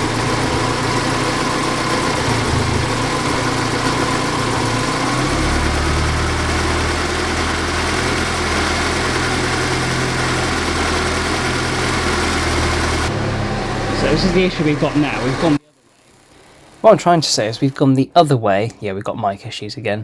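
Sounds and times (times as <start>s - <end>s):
car engine idling: 0.0s - 17.7s.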